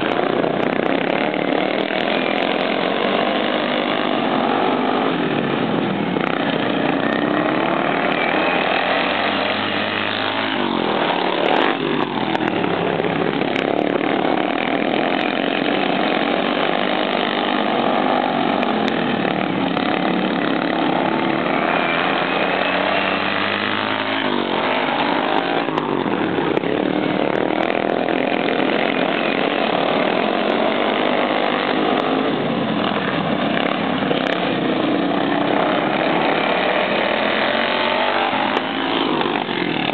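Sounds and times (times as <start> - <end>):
racing lawn mower engines: 0.0 - 39.9.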